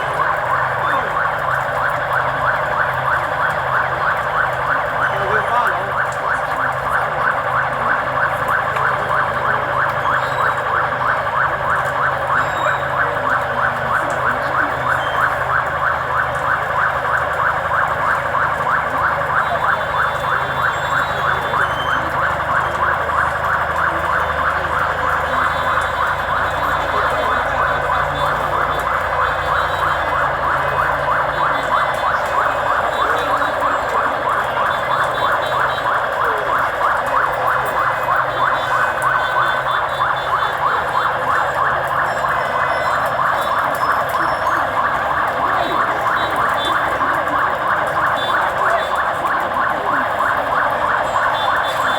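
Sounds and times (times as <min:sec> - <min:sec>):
warbling vehicle siren: 0:00.0 - 0:51.9.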